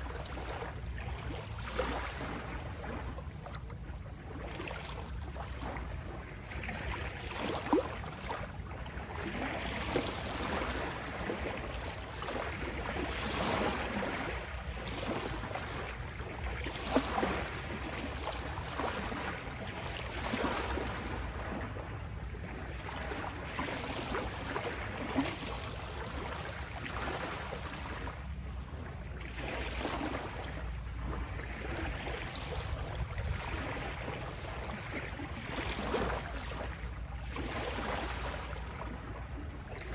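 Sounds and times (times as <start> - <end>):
small waves lapping ashore: 0.0 - 39.9.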